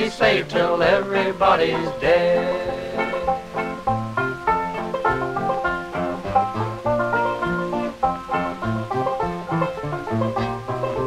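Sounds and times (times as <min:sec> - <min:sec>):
banjo picking: 0:00.0 - 0:11.0.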